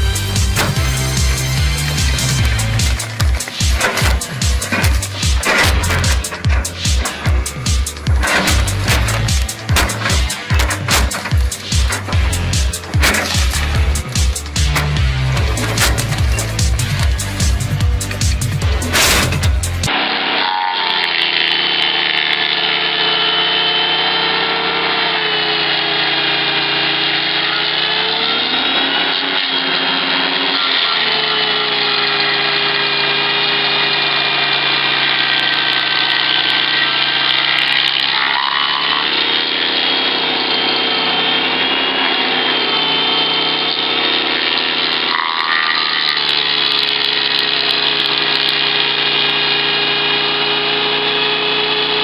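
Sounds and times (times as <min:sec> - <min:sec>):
shredder engine running hard: 0:00.0 - 0:52.0.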